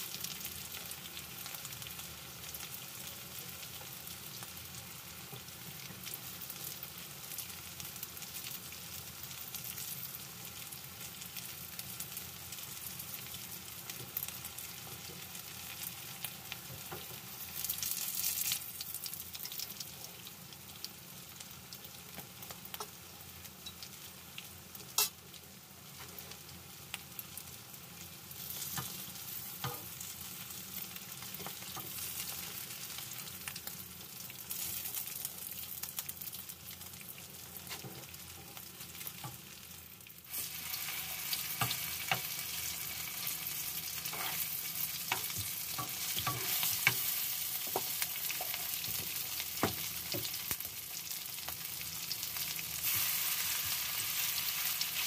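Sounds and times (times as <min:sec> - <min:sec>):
oil sizzling in a pan: 0:00.0 - 0:55.0.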